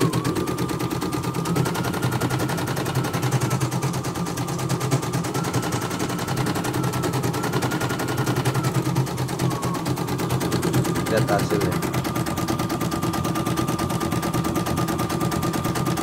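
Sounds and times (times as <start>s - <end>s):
thin whine: 0.0s - 15.4s
motor hum: 0.0s - 16.0s
needle clattering stitches: 0.0s - 16.0s.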